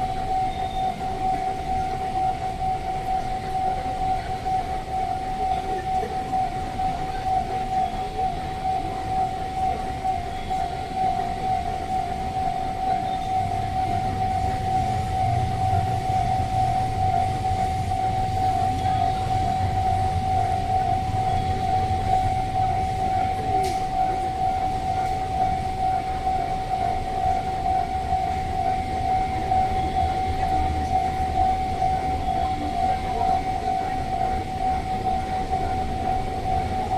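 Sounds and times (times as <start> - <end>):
level crossing alarm high tone: 0.0 - 36.9
low rumble of a train: 0.0 - 36.9.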